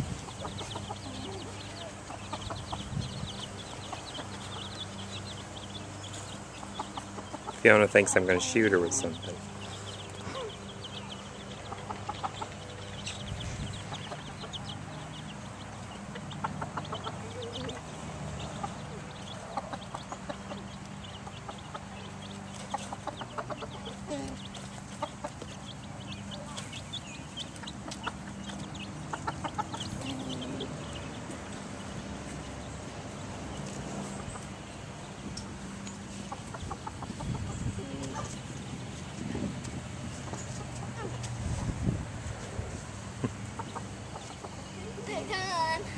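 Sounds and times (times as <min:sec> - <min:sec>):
hen clucking: 0:00.0 - 0:38.6, 0:40.1 - 0:45.9
chicks peeping: 0:00.0 - 0:45.9.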